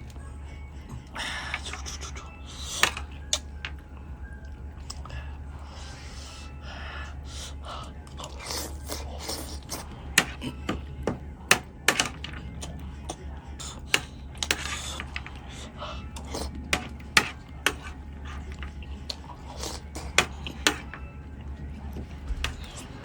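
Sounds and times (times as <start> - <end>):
low hum: 0.0 - 23.0
person eating: 0.8 - 23.0.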